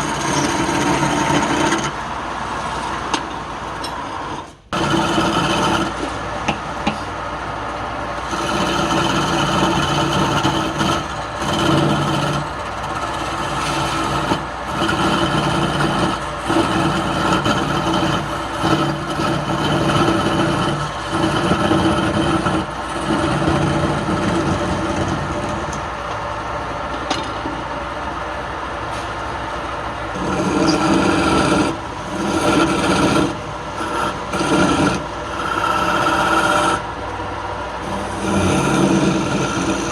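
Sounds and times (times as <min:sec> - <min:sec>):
tool rubbing spinning wood: 0:00.0 - 0:02.8, 0:03.9 - 0:07.0, 0:08.1 - 0:26.0, 0:30.0 - 0:37.0, 0:37.8 - 0:39.9
wood lathe running: 0:00.0 - 0:26.6, 0:29.9 - 0:39.9.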